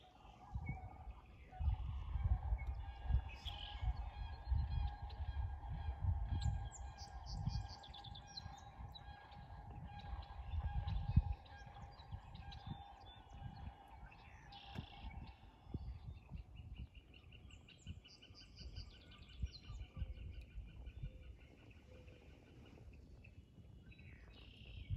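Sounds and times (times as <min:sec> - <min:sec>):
songbirds chirping and singing: 0:00.0 - 0:24.9
wind buffeting on microphone: 0:00.0 - 0:24.9.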